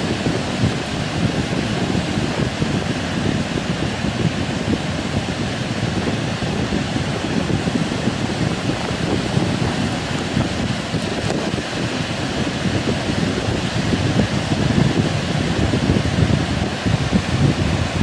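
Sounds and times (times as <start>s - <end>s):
heavy surf rushing: 0.0s - 18.0s
wind buffeting microphone: 0.0s - 18.0s.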